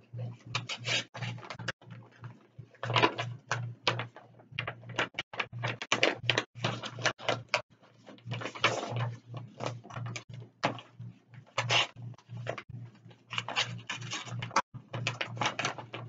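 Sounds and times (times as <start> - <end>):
paper rustling and crinkling: 0.5 - 10.9, 13.3 - 16.0.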